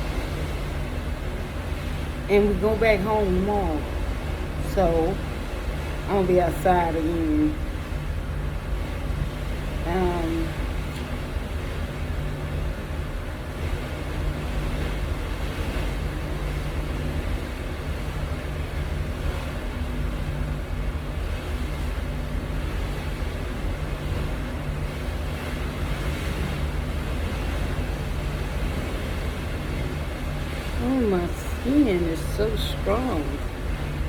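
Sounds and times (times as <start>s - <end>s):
constant low hum: 0.0s - 34.0s.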